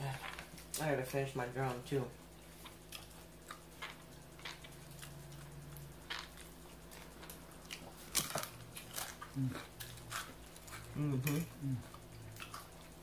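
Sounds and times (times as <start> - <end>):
low hum: 1.4 - 13.0
person chewing food: 2.4 - 13.0.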